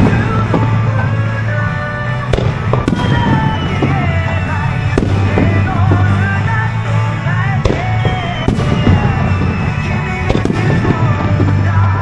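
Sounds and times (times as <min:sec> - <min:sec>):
firework bangs: 0:00.0 - 0:12.0
music with bass line: 0:00.0 - 0:12.0.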